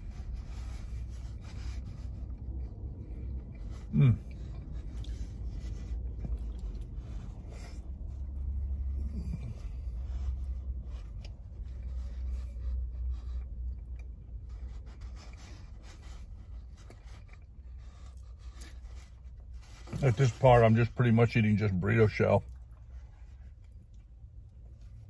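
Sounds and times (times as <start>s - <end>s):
person chewing: 0.6s - 20.0s, 22.4s - 25.0s.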